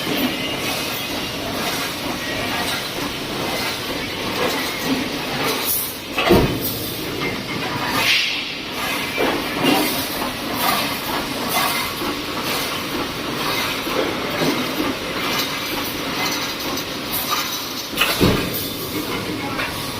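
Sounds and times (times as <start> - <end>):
welding machine clatter and hiss: 0.0 - 19.9.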